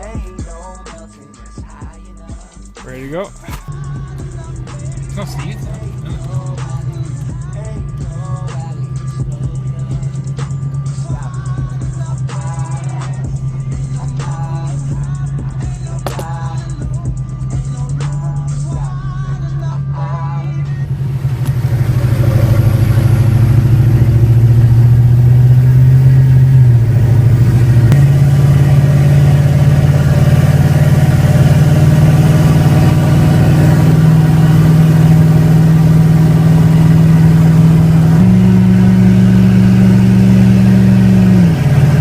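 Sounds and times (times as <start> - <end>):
diesel truck engine droning: 0.0 - 42.0.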